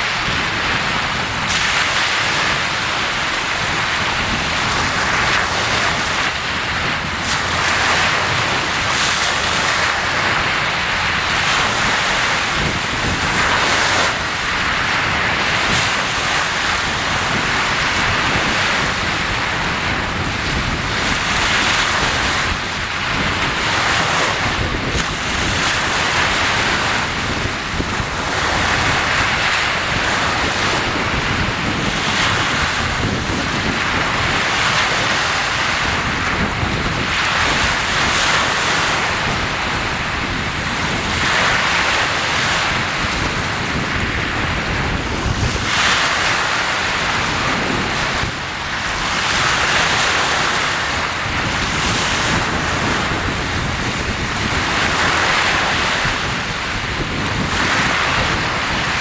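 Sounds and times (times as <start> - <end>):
sea waves washing in: 0.0 - 59.0
wind buffeting microphone: 0.0 - 59.0.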